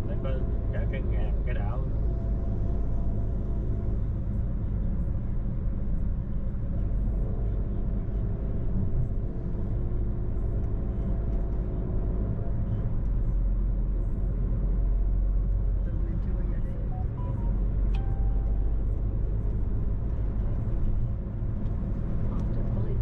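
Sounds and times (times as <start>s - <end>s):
car engine hum: 0.0s - 23.0s
road and tyre noise: 0.0s - 23.0s.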